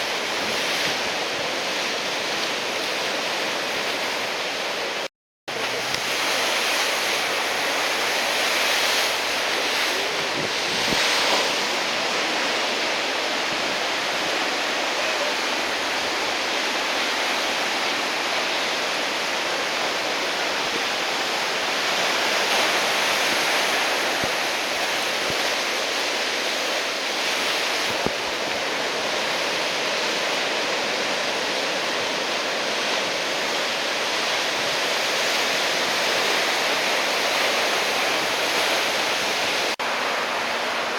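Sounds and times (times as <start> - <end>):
heavy surf crashing waves: 0.0 - 40.9.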